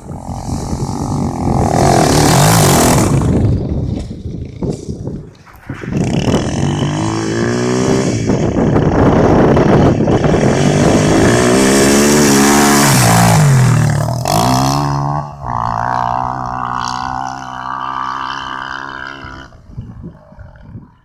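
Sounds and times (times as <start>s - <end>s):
atv engine revving: 0.0s - 4.9s, 5.9s - 21.0s.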